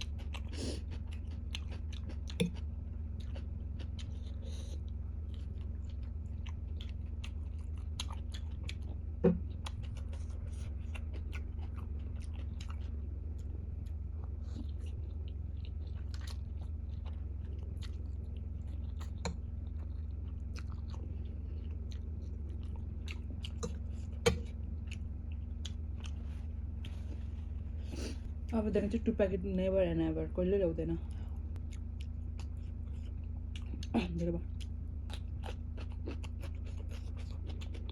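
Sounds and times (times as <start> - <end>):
person chewing noodles: 0.0 - 28.5, 31.1 - 37.9
steady low hum: 0.0 - 37.9.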